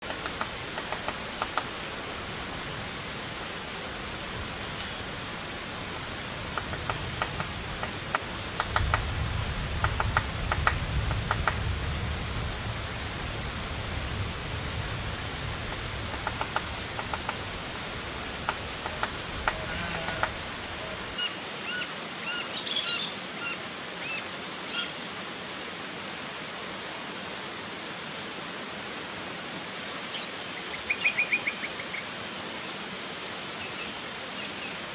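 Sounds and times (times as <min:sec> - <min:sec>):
outdoor hiss: 0:00.0 - 0:34.9.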